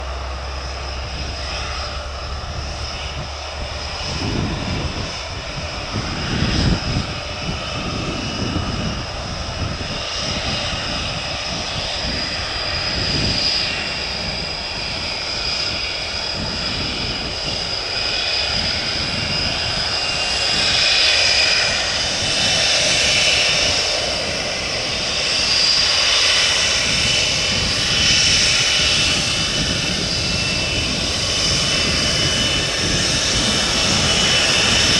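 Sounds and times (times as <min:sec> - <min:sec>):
jet engines roaring and whining: 0:00.0 - 0:34.9.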